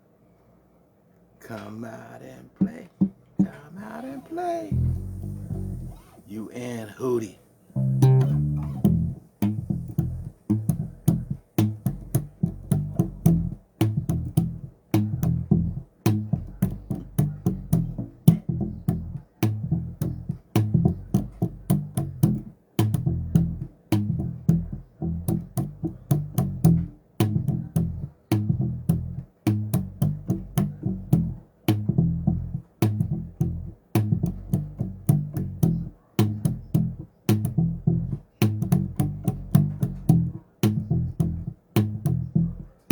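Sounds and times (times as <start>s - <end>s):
plucked bass guitar: 4.6s - 6.2s, 7.8s - 42.9s.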